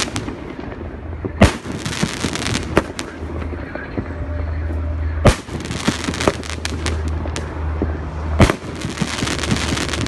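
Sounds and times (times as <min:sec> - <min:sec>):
firework bangs: 0:00.0 - 0:04.4, 0:05.1 - 0:10.0.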